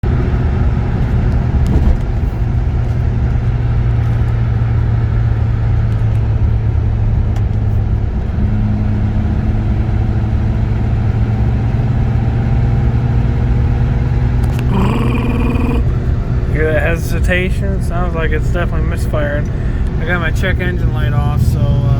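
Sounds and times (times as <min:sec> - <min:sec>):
road drone: 0:00.1 - 0:21.9.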